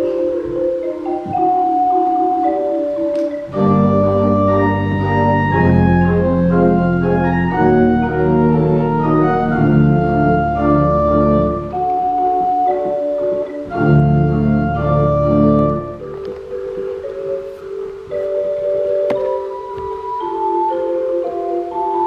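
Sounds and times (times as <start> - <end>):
high flute-like organ notes: 0.0 - 22.0
organ chords over deep bass: 0.0 - 22.0.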